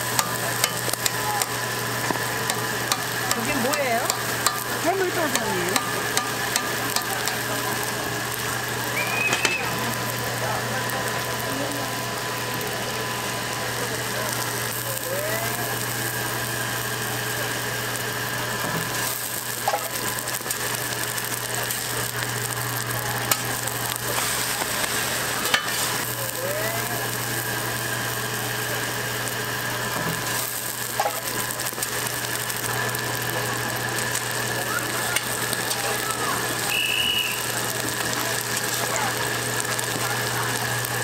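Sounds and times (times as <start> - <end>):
pancakes sizzling in oil: 0.0 - 41.0.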